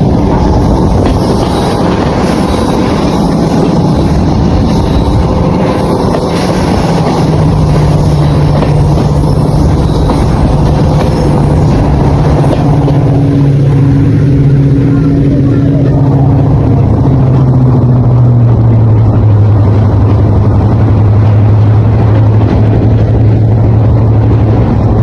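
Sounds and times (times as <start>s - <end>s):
diesel locomotive engines running: 0.0s - 25.0s
higher hum: 0.0s - 25.0s
low hum: 0.0s - 25.0s.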